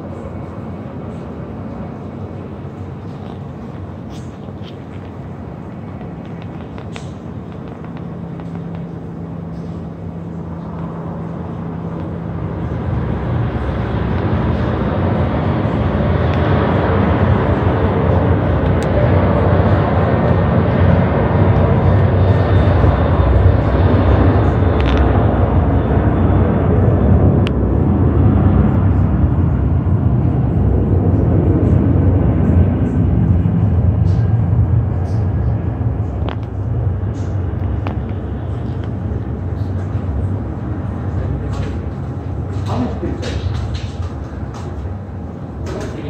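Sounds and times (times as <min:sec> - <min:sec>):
jet engines rumbling: 0:00.0 - 0:46.0
steady low hum: 0:00.0 - 0:46.0.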